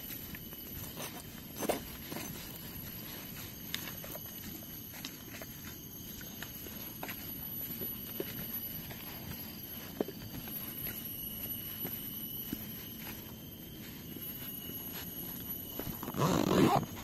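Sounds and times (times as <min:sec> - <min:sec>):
footsteps on forest trail: 0:00.0 - 0:17.0.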